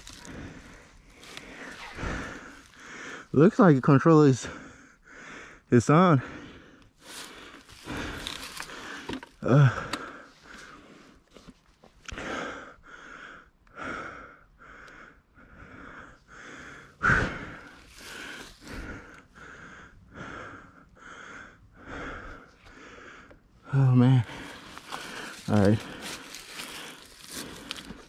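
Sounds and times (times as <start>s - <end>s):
person panting heavily: 0.0s - 3.6s, 4.3s - 11.3s, 12.1s - 28.0s.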